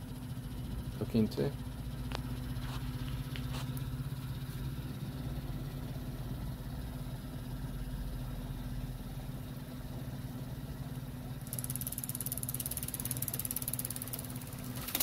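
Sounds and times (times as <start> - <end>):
tape deck motor hum: 0.0 - 15.0.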